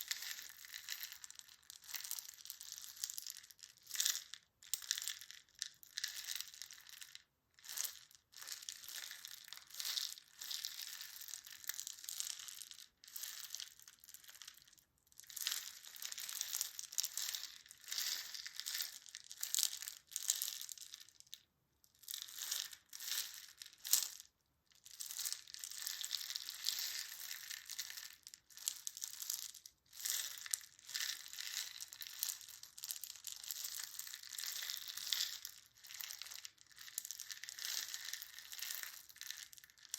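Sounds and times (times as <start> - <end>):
crinkling and crunching by hand: 0.0 - 21.0, 22.2 - 39.9.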